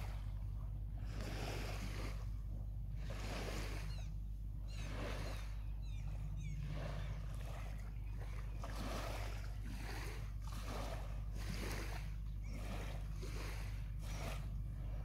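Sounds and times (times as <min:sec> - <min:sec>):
small waves lapping on sand: 0:00.0 - 0:15.0
steady low rumble: 0:00.0 - 0:15.0.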